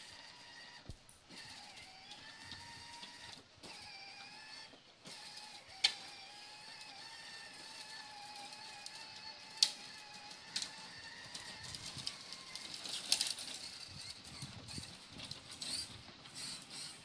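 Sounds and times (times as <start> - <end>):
toy truck motor whining: 0.0 - 17.0.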